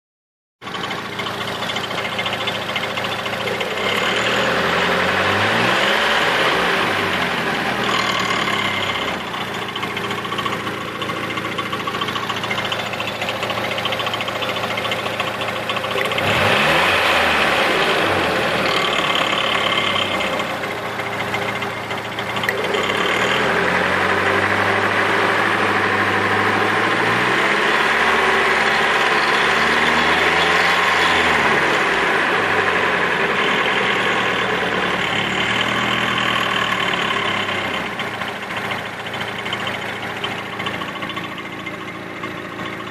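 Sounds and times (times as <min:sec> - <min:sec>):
engine rattle: 0:00.6 - 0:42.9
car engine revving: 0:01.0 - 0:42.9.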